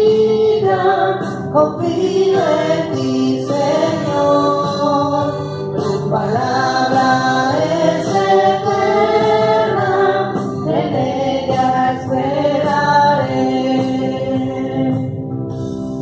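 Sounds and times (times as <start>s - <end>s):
person singing into a microphone: 0.0s - 15.2s
group of voices singing: 0.0s - 15.3s
electronic keyboard: 0.0s - 16.0s.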